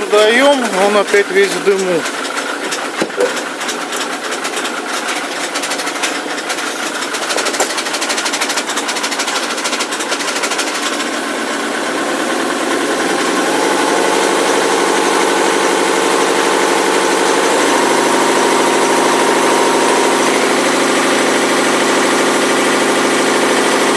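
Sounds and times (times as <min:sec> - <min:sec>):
diesel engine knocking clatter: 0:00.0 - 0:23.9.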